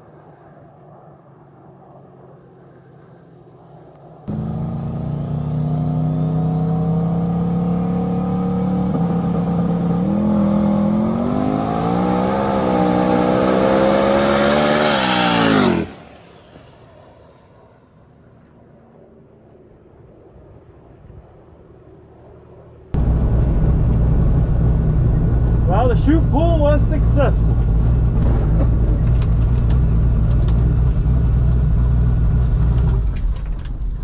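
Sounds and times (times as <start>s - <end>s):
race car engine at full throttle: 0.0s - 17.0s, 22.9s - 34.0s.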